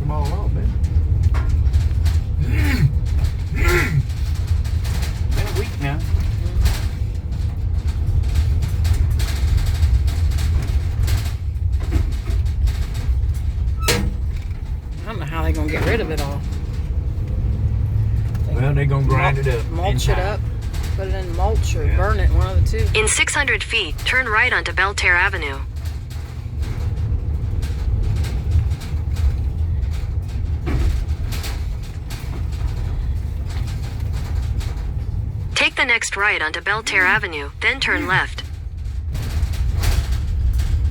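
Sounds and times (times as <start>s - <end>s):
rattles and knocks of loose things: 0.0s - 40.9s
vehicle road and engine rumble: 0.0s - 40.9s.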